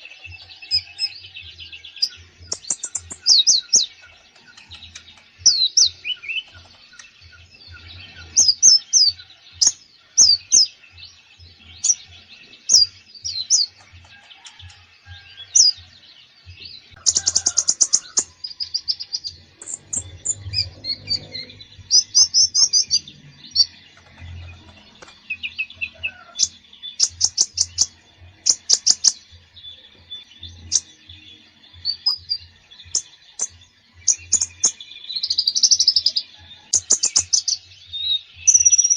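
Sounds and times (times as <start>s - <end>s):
songbird singing with trills: 0.0s - 38.9s.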